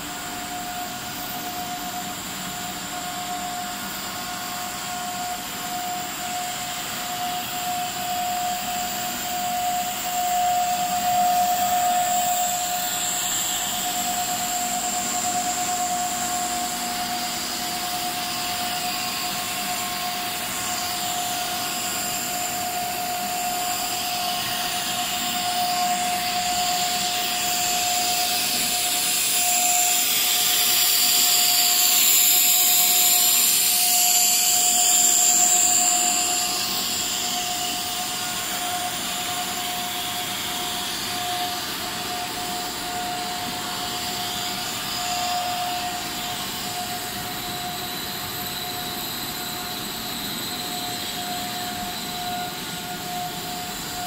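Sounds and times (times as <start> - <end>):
constant machine whine: 0.0 - 54.0
machine motors and pumps whirring: 0.0 - 54.0.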